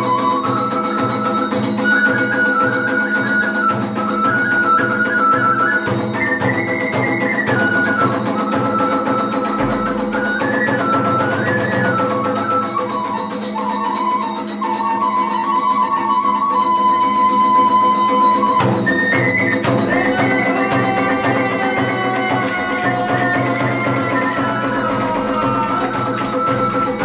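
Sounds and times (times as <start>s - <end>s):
bamboo flute melody: 0.0s - 27.0s.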